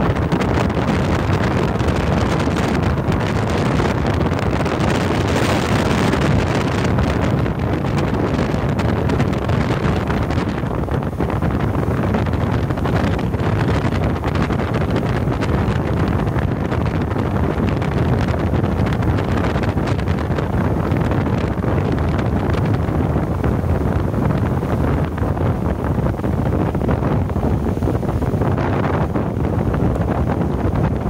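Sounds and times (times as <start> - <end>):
water rushing in wake: 0.0 - 31.0
wind buffeting microphone: 0.0 - 31.0.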